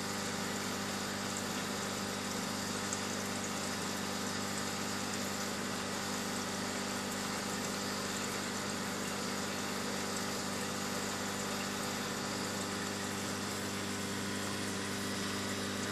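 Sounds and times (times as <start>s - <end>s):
aquarium pump humming: 0.0s - 15.9s.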